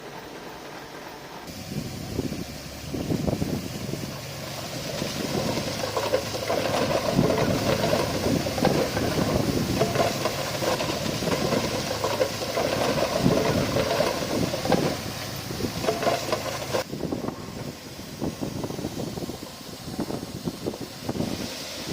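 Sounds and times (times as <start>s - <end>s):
heavy diesel machinery running: 0.0s - 21.9s.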